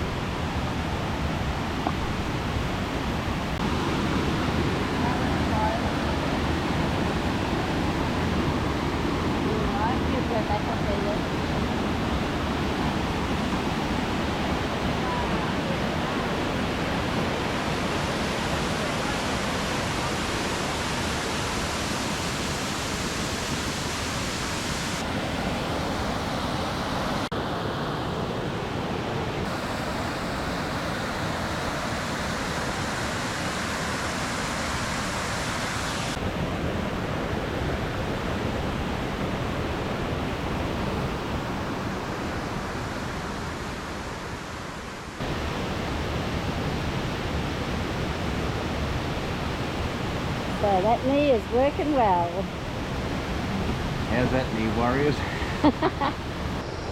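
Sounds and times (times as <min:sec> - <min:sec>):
waterfall rushing: 0:00.0 - 0:27.3, 0:29.0 - 0:36.3, 0:39.8 - 0:56.8.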